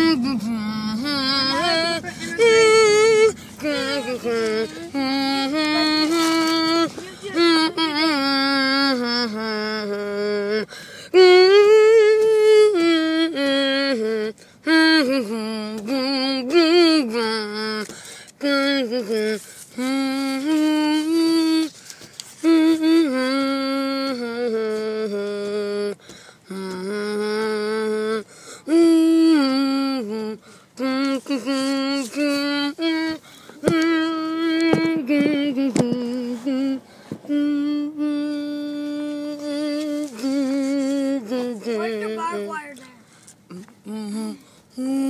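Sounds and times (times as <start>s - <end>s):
person humming: 0.0s - 21.7s, 22.4s - 45.0s.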